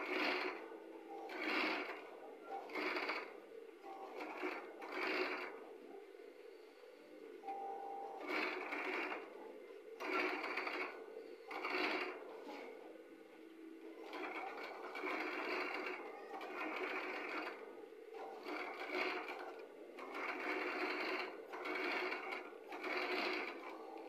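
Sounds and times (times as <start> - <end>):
sewing machine stitching: 0.0 - 5.6, 8.2 - 9.4, 10.0 - 12.8, 14.0 - 24.0.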